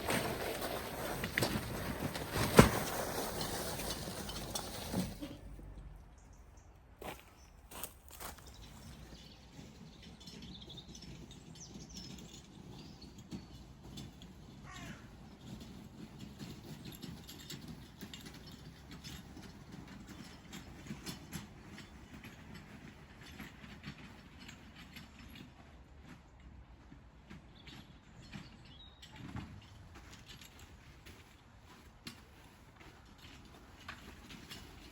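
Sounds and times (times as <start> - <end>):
hand trolley wheels rumbling: 0.0 - 6.3, 7.0 - 34.9.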